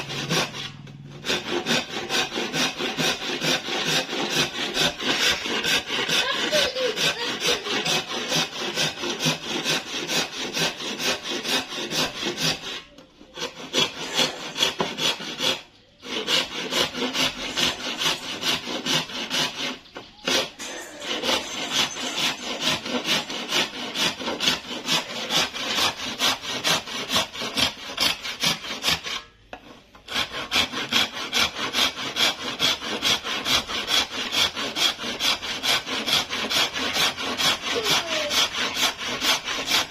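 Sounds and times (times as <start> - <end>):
hand saw cutting hard wood: 0.0 - 39.9.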